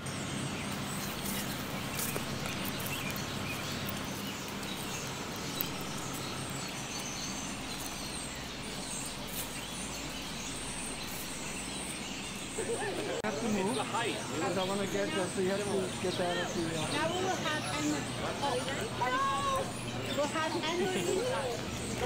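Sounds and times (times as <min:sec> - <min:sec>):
birds chirping faintly: 0:00.0 - 0:22.0
low steady hum: 0:00.0 - 0:22.0.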